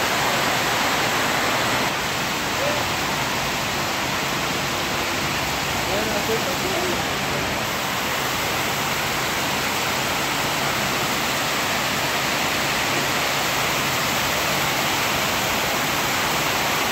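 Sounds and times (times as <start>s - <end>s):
heavy rain on pavement: 0.0s - 16.9s.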